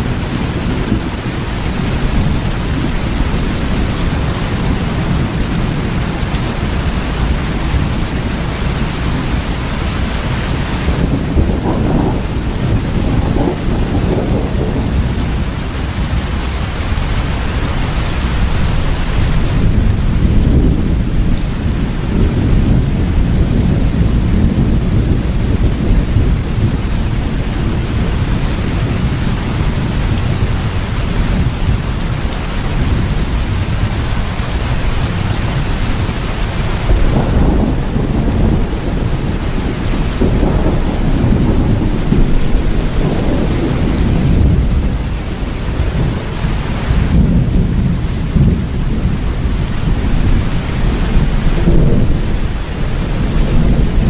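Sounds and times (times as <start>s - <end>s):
heavy rain: 0.0s - 54.0s
low rolling thunder: 0.0s - 54.0s.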